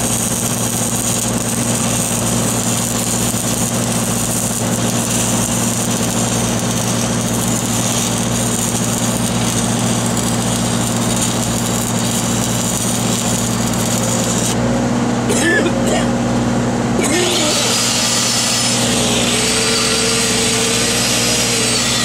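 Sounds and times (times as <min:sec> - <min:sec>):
welding arc hissing and crackling: 0:00.0 - 0:14.6, 0:17.1 - 0:22.0
welding machine engine running: 0:00.0 - 0:15.2, 0:16.4 - 0:22.0.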